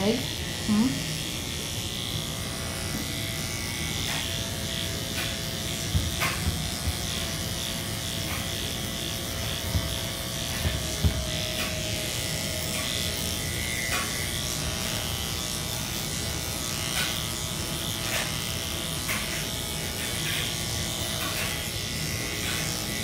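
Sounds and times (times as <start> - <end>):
electric clippers buzzing: 0.0 - 23.0.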